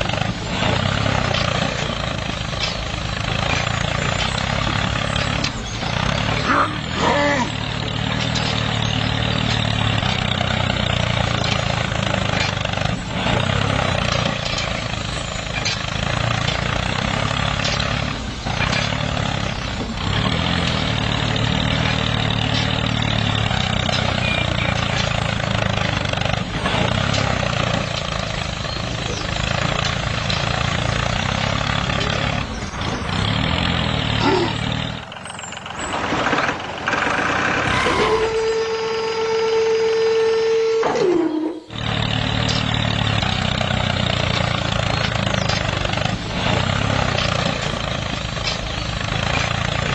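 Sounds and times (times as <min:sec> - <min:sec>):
vehicle engine running: 0:00.0 - 0:49.9.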